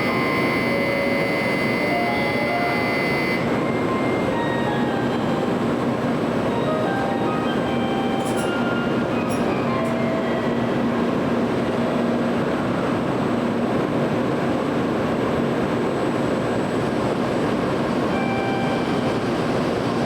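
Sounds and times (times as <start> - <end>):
high-speed train running: 0.0 - 20.0.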